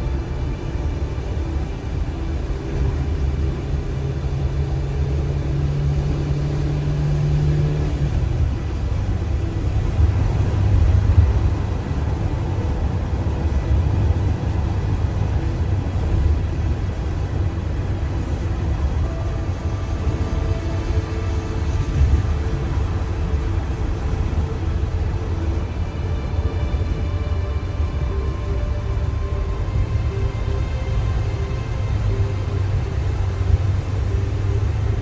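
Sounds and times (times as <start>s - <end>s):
engine hum rising in pitch: 0.0s - 35.0s
tyre and engine rumble: 0.0s - 35.0s.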